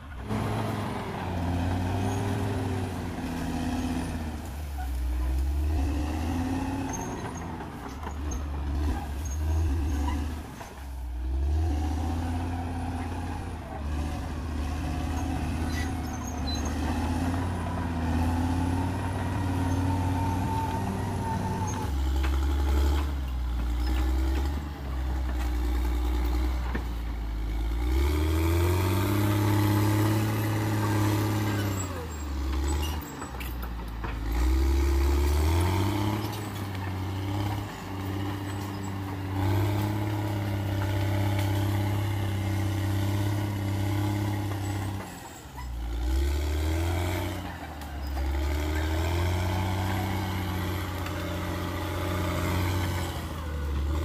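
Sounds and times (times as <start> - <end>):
bulldozer diesel engine revving: 0.0 - 54.0.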